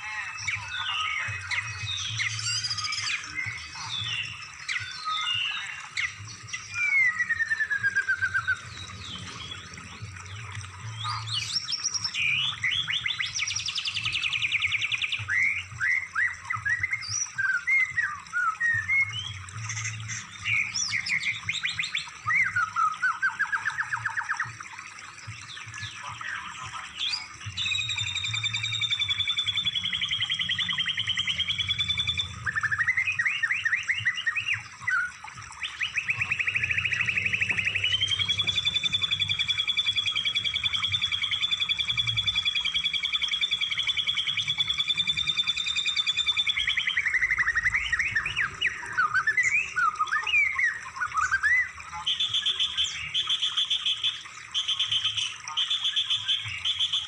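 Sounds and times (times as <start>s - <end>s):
songbird song with trills: 0.0s - 57.0s.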